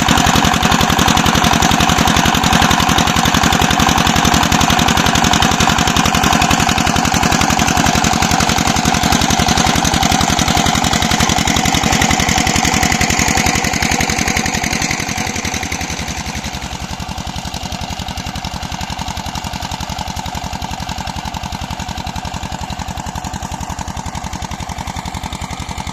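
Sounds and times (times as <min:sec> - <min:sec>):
diesel engine running pump: 0:00.0 - 0:25.9.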